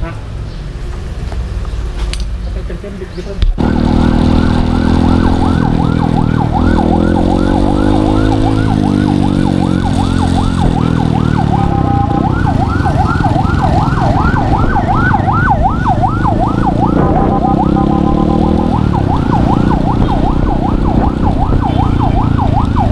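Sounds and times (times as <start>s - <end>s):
siren yelping: 3.6s - 22.9s.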